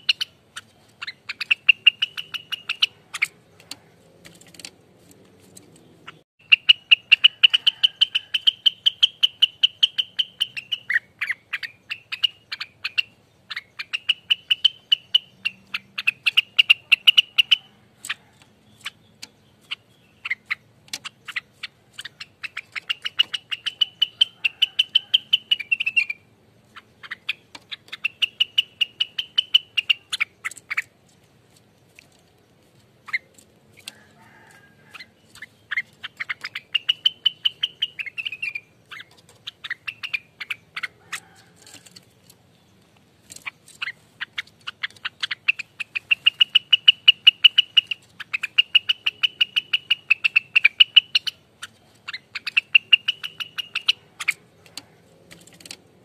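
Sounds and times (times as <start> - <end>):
bird singing rapid notes: 0.0 - 56.0.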